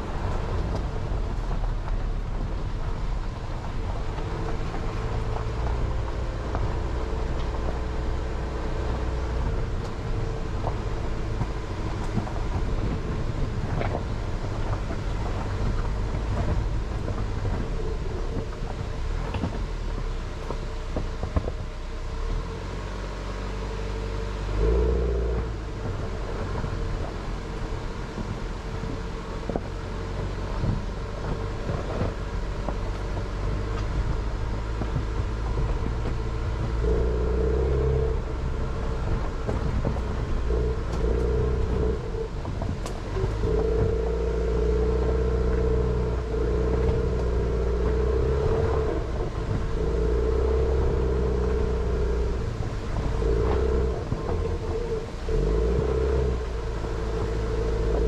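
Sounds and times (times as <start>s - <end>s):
car engine humming: 0.0s - 58.0s.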